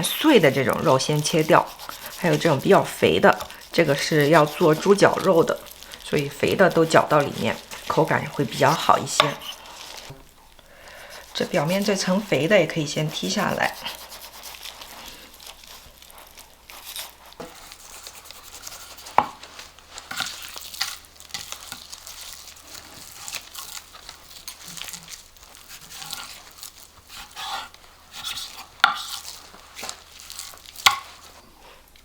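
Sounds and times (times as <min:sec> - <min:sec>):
knife scraping through meat: 0:00.0 - 0:10.1, 0:11.0 - 0:19.2, 0:20.0 - 0:31.4.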